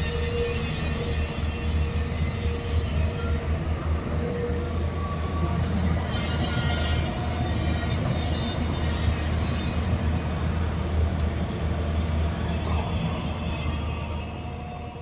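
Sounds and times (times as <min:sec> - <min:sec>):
excavator diesel engines droning: 0:00.0 - 0:15.0.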